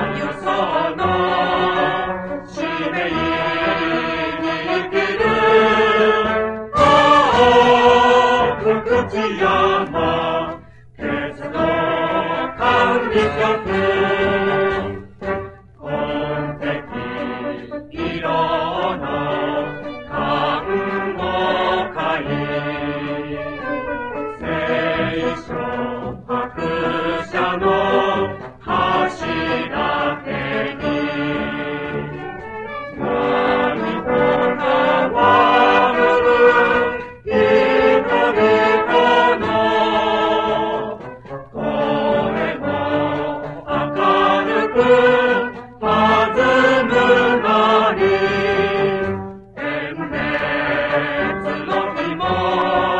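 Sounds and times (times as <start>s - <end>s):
brass band playing: 0.0s - 52.9s
mixed choir singing a march: 0.0s - 52.9s.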